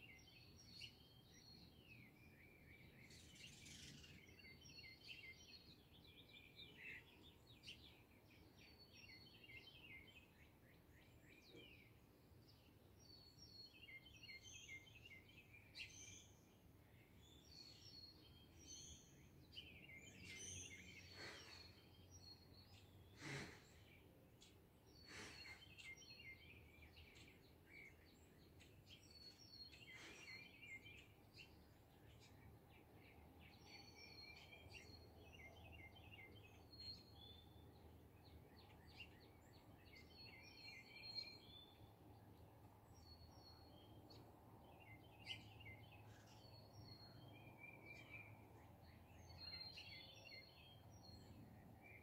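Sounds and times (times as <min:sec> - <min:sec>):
songbirds chirping and trilling: 0:00.0 - 0:52.0.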